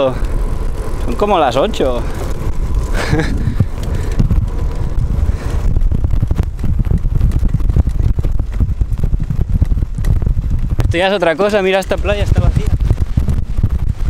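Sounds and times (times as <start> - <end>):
bicycle knocking and rattling: 0.0 - 14.0
wind buffeting microphone: 0.0 - 14.0.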